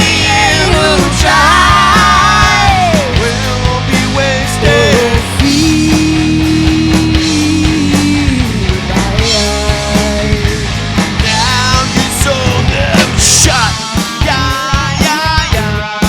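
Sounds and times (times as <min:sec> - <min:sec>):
drums: 0:00.0 - 0:16.0
live rock band playing: 0:00.0 - 0:16.0.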